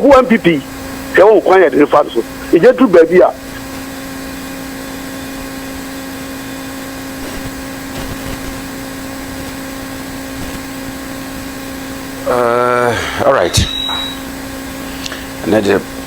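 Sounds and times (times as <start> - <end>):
steady hiss: 0.0 - 15.9
constant low hum: 0.0 - 16.0.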